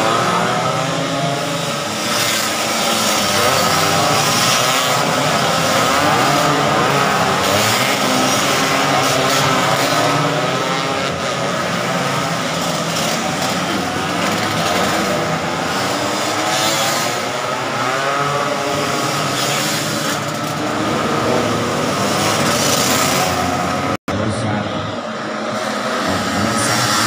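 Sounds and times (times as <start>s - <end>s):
scooter engines revving: 0.0s - 27.0s.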